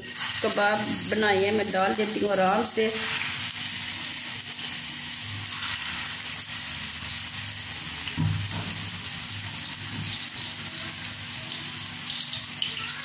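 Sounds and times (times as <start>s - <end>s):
kebabs sizzling in oil: 0.0s - 13.0s.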